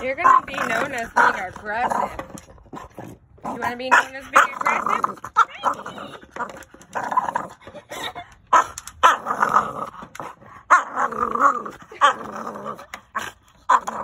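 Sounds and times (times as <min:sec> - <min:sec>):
dog growling: 0:00.0 - 0:07.6, 0:08.6 - 0:14.0.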